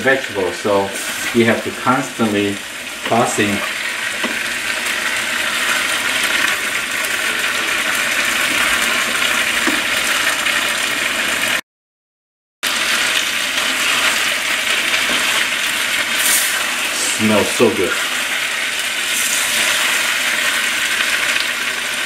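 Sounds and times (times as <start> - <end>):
vegetables sizzling in a pot: 0.0 - 11.6, 12.6 - 22.0.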